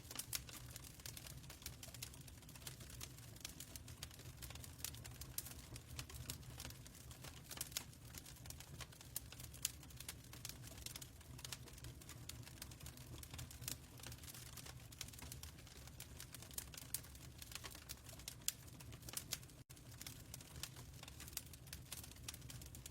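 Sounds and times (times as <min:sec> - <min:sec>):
fireplace crackling and popping: 0:00.0 - 0:22.9.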